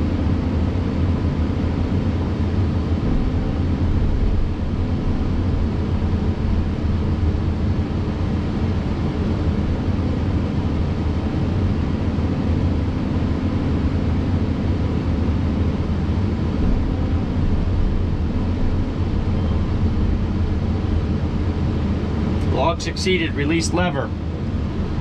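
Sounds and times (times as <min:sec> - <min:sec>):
excavator engine humming: 0:00.0 - 0:25.0.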